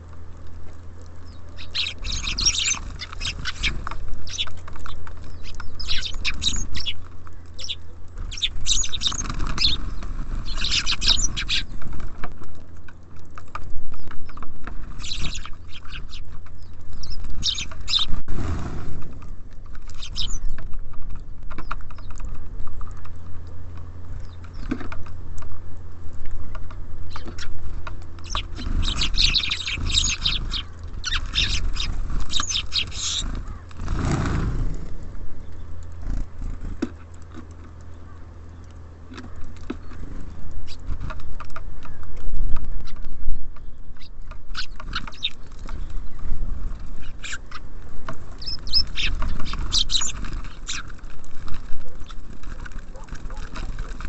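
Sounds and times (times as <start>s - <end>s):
songbirds chirping and twittering: 0.0s - 54.0s
steady low rumble: 0.0s - 54.0s.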